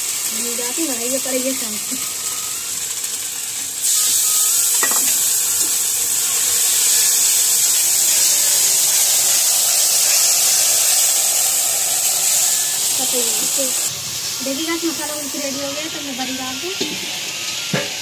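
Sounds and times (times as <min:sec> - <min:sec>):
spices sizzling in hot oil: 0:00.0 - 0:18.0.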